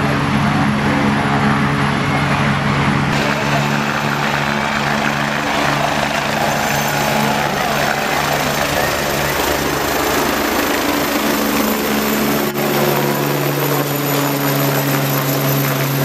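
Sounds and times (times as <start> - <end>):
helicopter rotor and turbine drone: 0.0 - 16.0.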